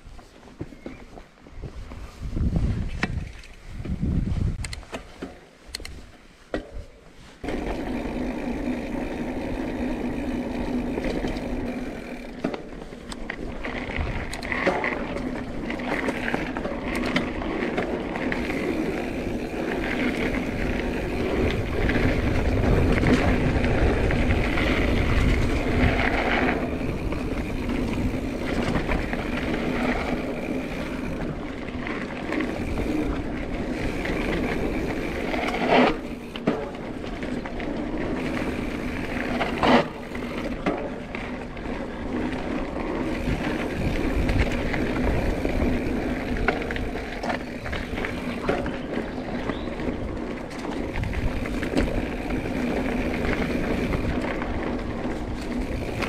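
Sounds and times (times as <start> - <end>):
bike rattling: 0.0 - 56.0
bike tyres on dirt: 0.0 - 56.0.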